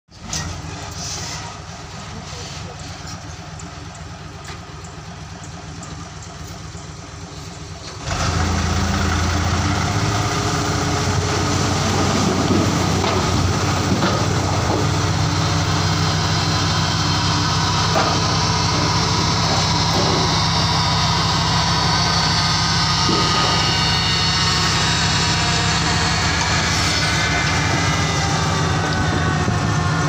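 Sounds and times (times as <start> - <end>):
truck diesel engine idling and revving: 0.1 - 30.0.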